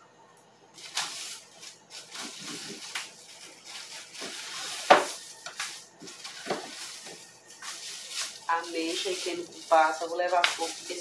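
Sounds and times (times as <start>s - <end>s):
plastic bags rustling and crinkling: 0.8s - 11.0s.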